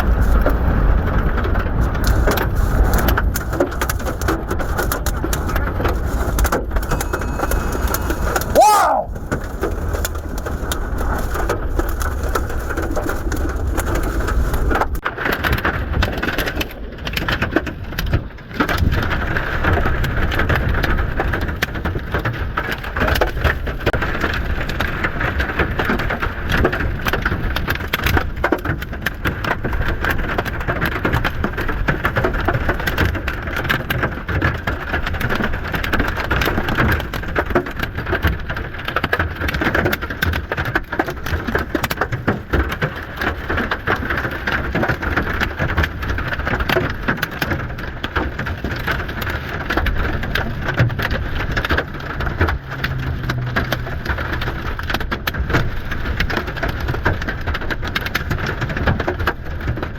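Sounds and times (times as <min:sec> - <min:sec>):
heavy rain on a vehicle: 0:00.0 - 0:59.9.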